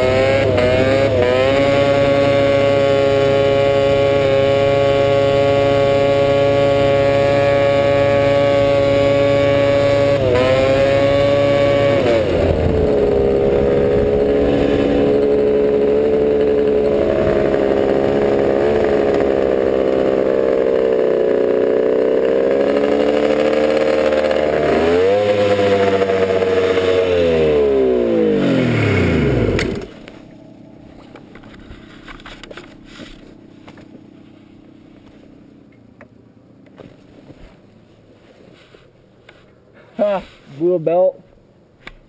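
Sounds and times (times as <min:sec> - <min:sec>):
engine running at high revs: 0:00.0 - 0:34.4.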